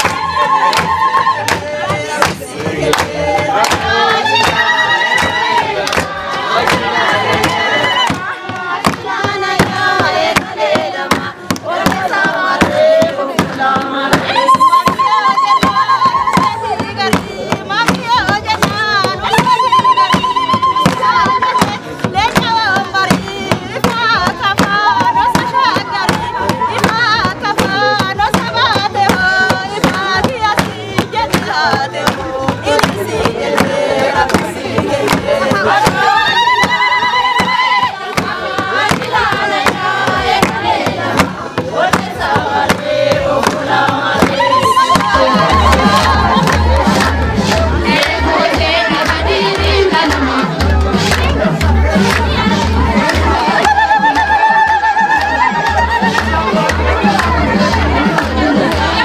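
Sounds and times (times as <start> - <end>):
fast steady beat: 0.0 - 59.0.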